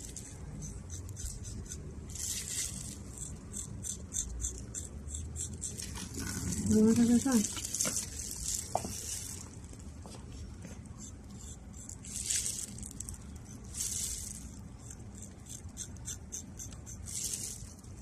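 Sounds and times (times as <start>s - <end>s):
blade scraping dry skin: 0.0s - 9.3s, 10.8s - 18.0s.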